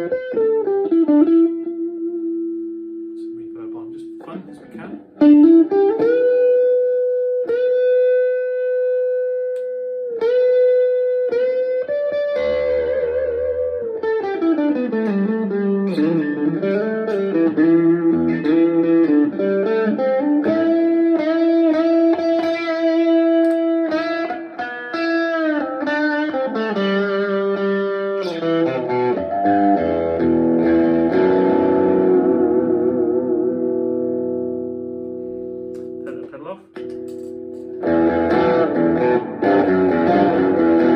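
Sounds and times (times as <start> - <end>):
electric guitar lead line: 0.0 - 40.9.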